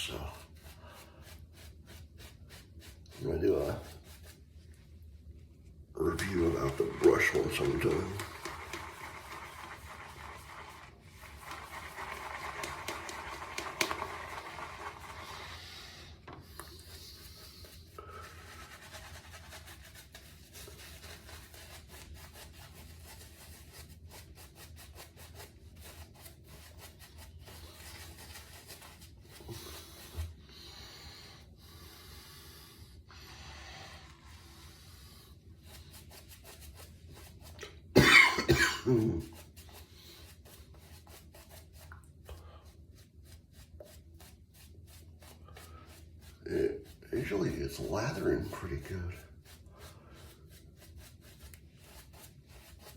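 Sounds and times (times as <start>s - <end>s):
shaving brush scrubbing lather: 0.0s - 4.8s, 6.0s - 52.9s.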